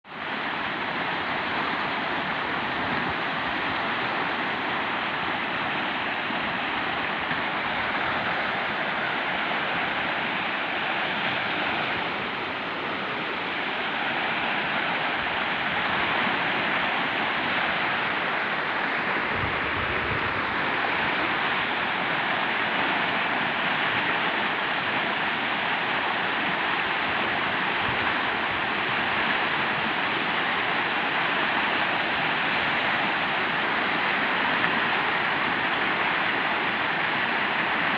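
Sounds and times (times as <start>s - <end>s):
river water rushing: 0.1s - 37.9s.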